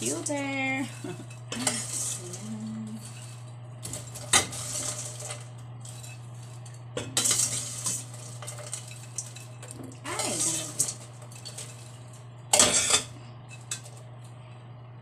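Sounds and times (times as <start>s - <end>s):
popcorn rustling: 0.0s - 12.6s
utensil scraping metal pot: 0.0s - 14.0s.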